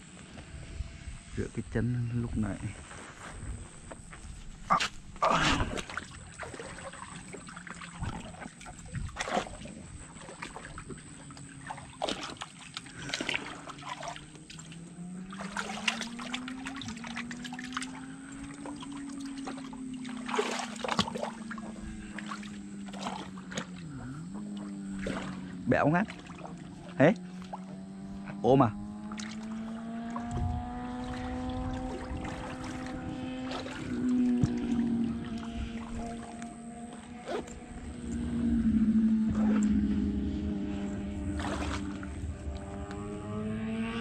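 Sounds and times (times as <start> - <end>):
motor hum: 0.0 - 44.0
water splashing and trickling: 4.2 - 28.2, 28.8 - 44.0.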